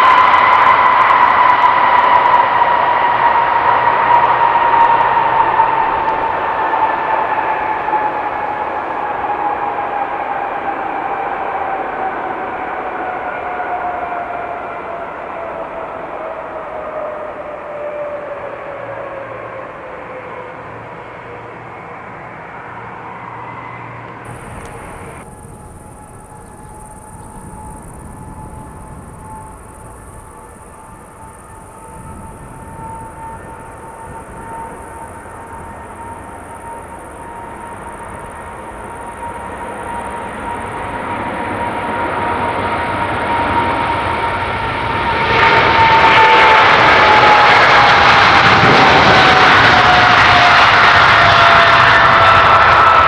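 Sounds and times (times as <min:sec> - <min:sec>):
jet airliner engine noise: 0:00.0 - 0:53.0.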